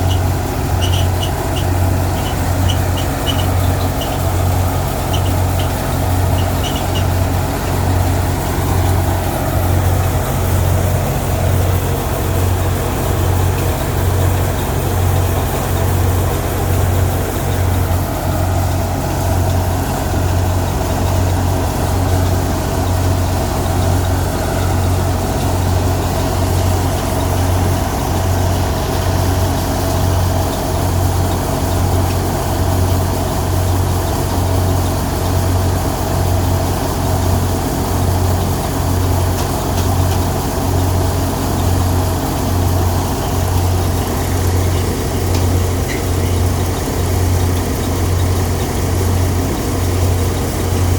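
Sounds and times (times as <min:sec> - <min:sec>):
threshing machine running: 0:00.0 - 0:50.9.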